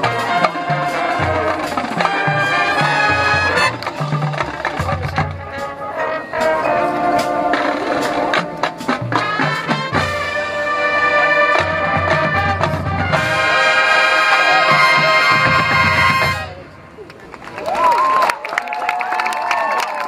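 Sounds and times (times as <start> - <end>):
marching band playing brass: 0.0 - 17.0.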